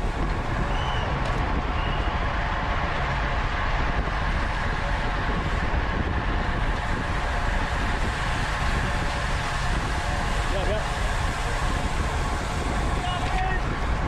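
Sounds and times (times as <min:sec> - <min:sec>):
road rumble: 0:00.0 - 0:14.0
wind rushing on microphone: 0:00.0 - 0:14.0.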